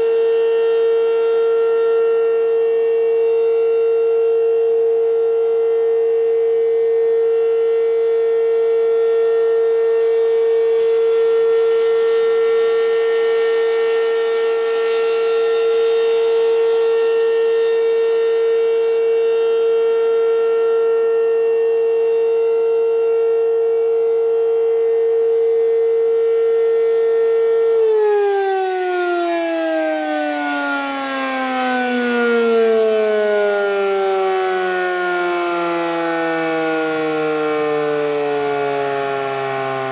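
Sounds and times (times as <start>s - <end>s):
warning siren held tone: 0.0s - 39.9s.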